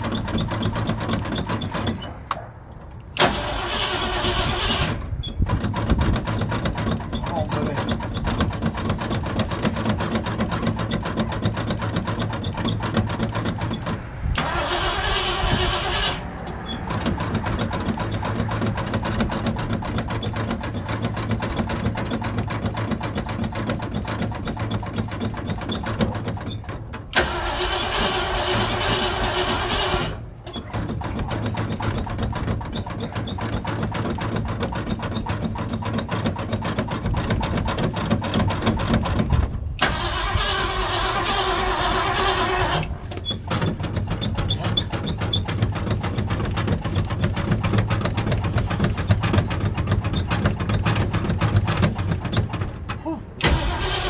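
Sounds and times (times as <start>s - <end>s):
engine cranking on starter: 0.0s - 2.4s, 3.1s - 54.0s.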